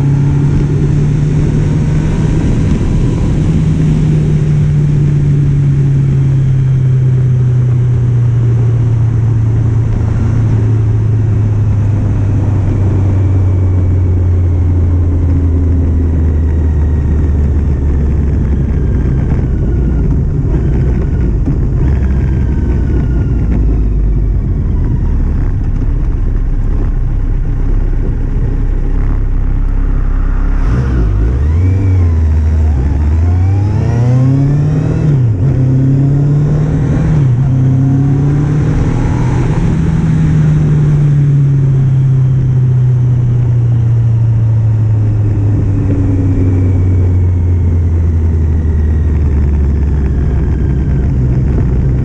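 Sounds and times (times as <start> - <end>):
motorcycle engine shifting gears: 0.0 - 52.0
wind rumble on microphone: 0.0 - 52.0.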